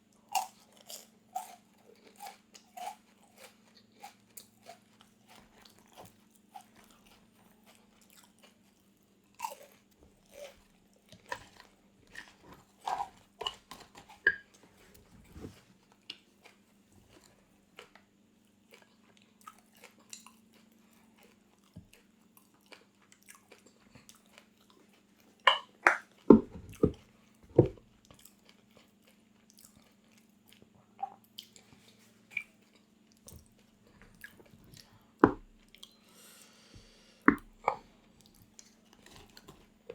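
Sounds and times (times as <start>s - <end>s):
chewing crunchy food: 0.0s - 36.1s, 37.3s - 39.9s.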